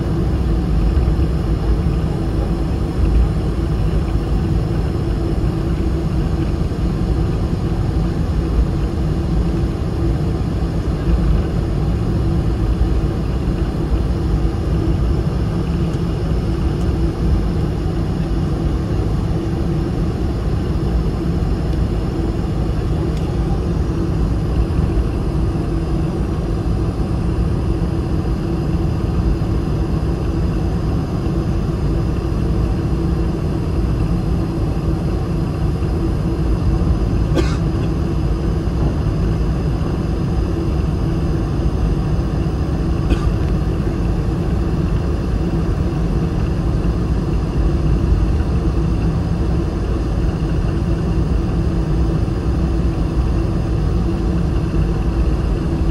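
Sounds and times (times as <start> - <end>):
aircraft cabin engine rumble: 0.0 - 55.9.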